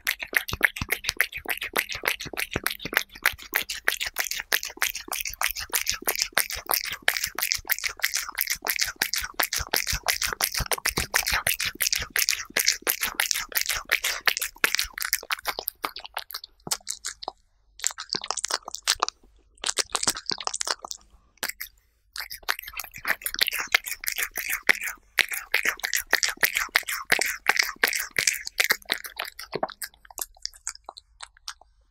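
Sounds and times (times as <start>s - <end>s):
cat licking and chewing: 0.0s - 31.9s.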